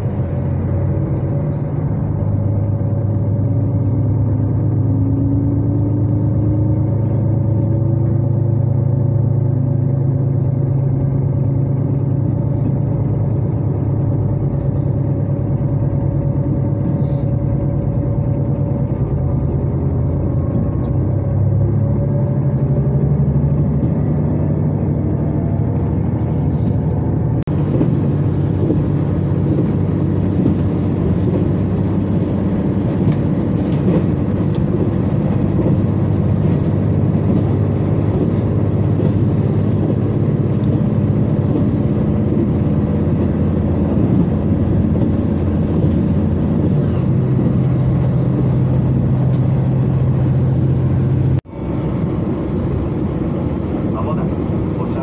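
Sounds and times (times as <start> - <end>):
diesel engine drone: 0.0 - 55.0
train wheels rumbling on rail: 0.0 - 55.0.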